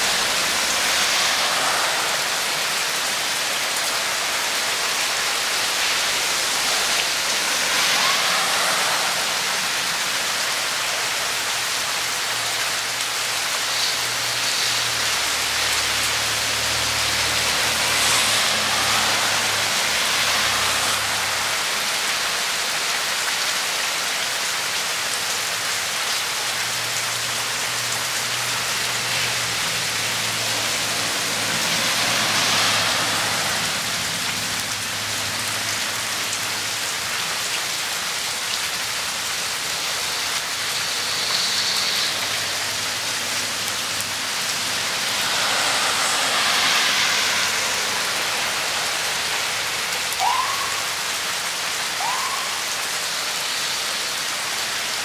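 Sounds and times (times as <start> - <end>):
steady rain falling: 0.0 - 55.0
water running over rocks: 0.0 - 55.0.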